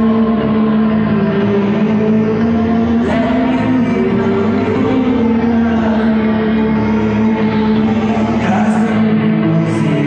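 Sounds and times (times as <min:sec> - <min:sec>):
dungeon synth chords: 0:00.0 - 0:10.0.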